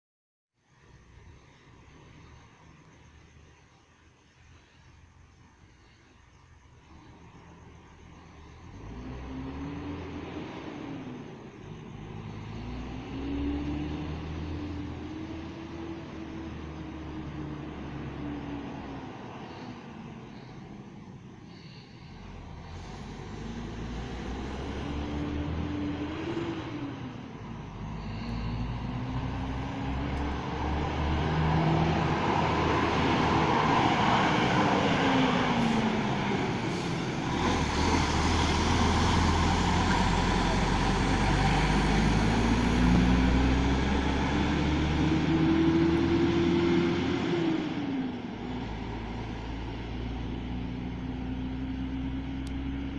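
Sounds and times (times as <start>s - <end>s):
diesel bus engine revving: 6.8s - 52.9s.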